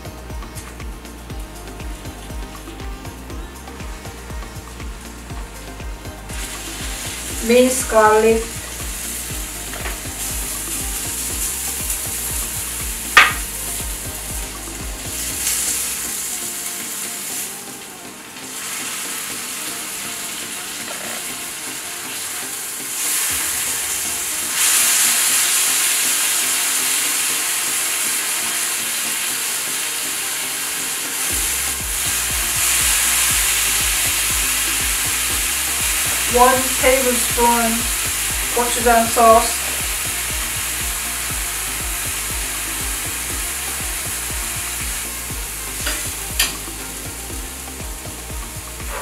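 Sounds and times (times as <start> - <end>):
food sizzling in oil: 0.0 - 49.0.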